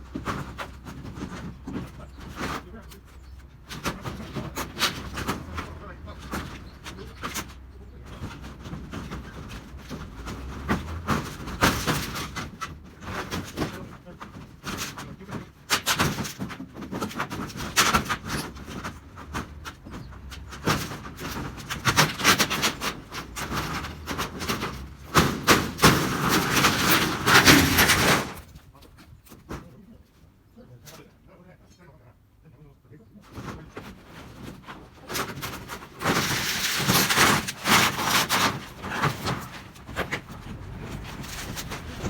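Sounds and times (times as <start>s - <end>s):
tin roofing sheets clanking: 0.0s - 31.1s, 33.2s - 42.0s.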